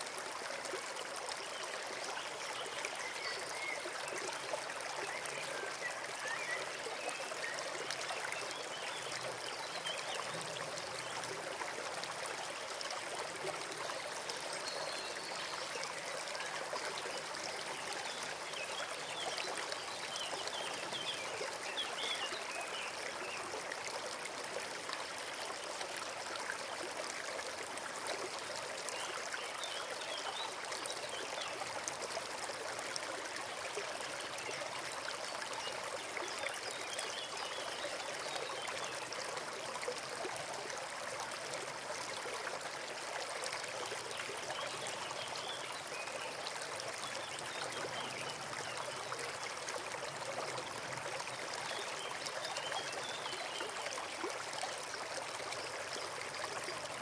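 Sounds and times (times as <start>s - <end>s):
stream rushing and trickling: 0.0s - 57.0s.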